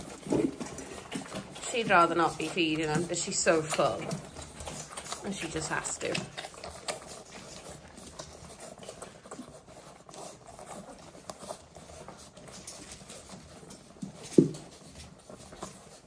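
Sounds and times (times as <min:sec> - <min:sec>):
puppies sucking and smacking: 0:00.0 - 0:16.0.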